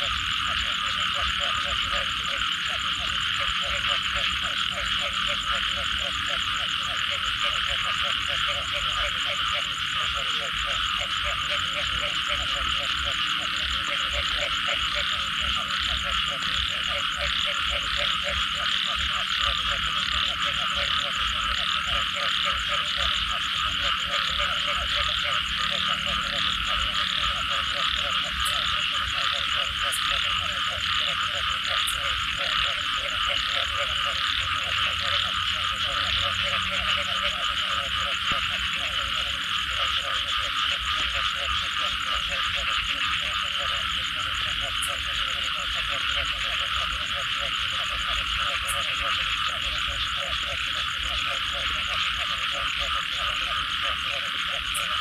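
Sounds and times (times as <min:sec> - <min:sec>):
chorus of frogs croaking: 0:00.0 - 0:55.0
fast repeated frog calls: 0:00.0 - 0:55.0.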